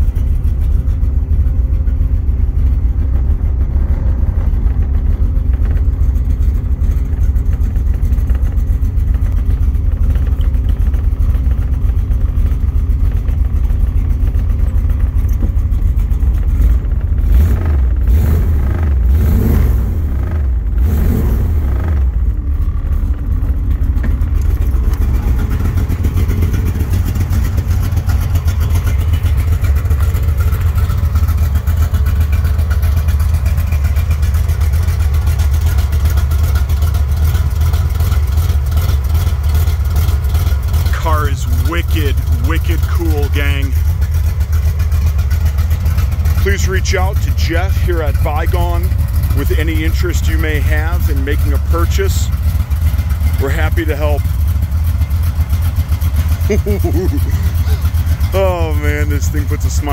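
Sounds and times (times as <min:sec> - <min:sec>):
car engine revving and idling: 0:00.0 - 0:59.9.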